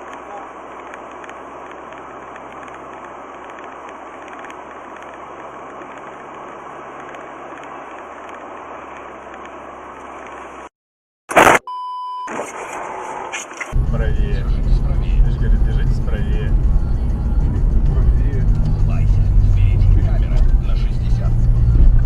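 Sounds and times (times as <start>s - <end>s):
car engine and road noise: 0.0s - 10.7s, 11.4s - 22.0s.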